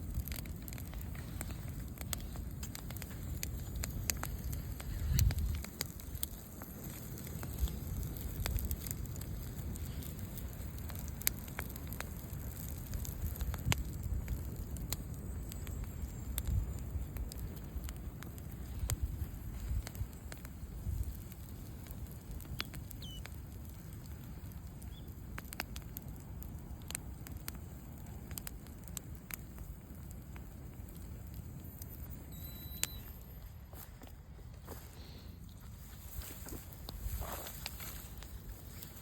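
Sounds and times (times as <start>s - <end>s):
bonfire crackling and popping: 0.0s - 39.0s
bonfire low rumble: 0.0s - 39.0s.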